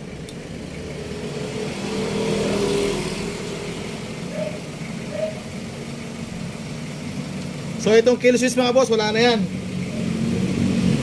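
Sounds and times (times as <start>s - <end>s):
vehicle passing by: 0.5s - 7.8s, 8.9s - 11.0s.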